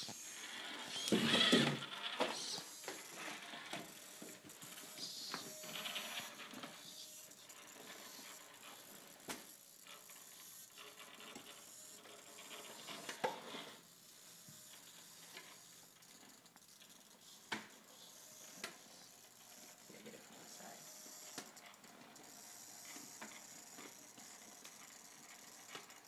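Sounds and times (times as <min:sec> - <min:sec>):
small electric motor whirring: 0:00.0 - 0:26.0.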